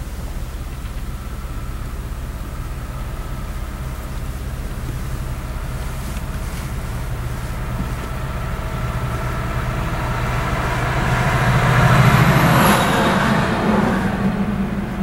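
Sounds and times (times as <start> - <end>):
car road and engine noise: 0.0 - 15.0
truck passing close: 0.0 - 15.0.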